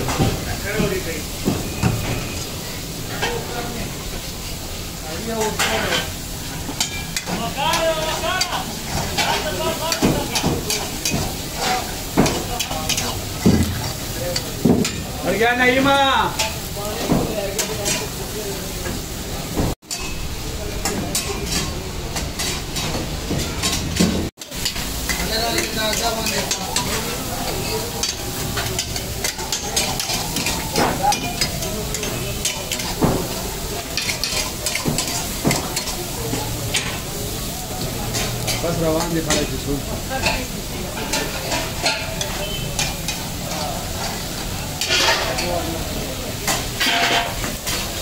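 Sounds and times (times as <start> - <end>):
meat sizzling in woks: 0.0 - 48.0
metal ladles scraping woks: 0.0 - 48.0.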